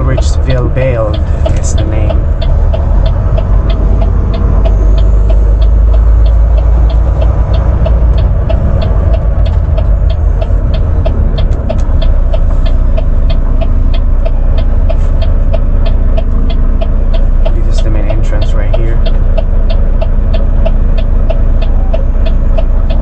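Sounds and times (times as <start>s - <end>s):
diesel engine rumble: 0.0s - 23.0s
turn signal ticking: 0.0s - 23.0s.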